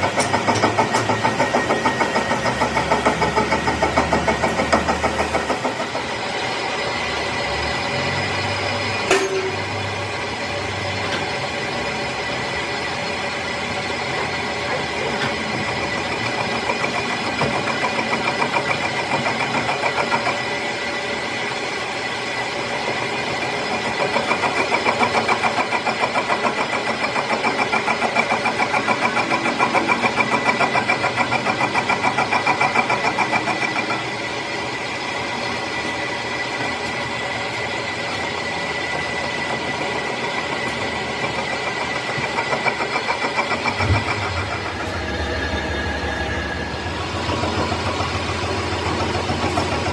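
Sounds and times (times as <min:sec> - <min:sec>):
metal lathe motor whine: 0:00.0 - 0:49.9.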